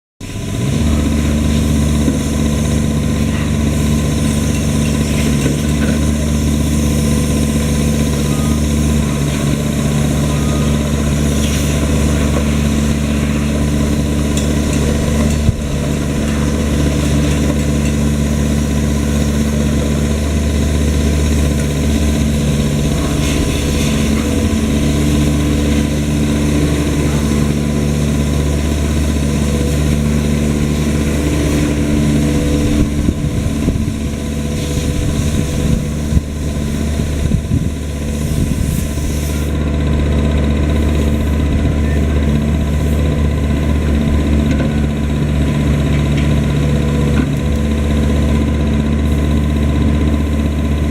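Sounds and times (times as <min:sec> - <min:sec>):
diesel engine idling: 0:00.2 - 0:50.9.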